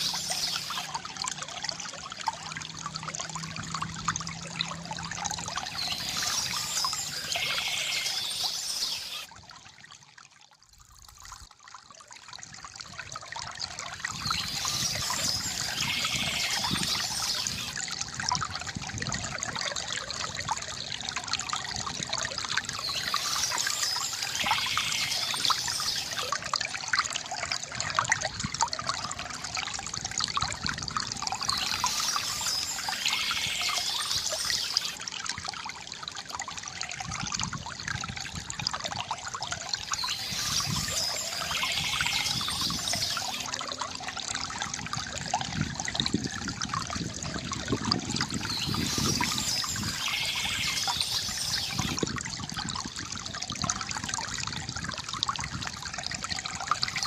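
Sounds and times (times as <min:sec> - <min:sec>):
stream trickling and splashing: 0:00.0 - 0:57.0.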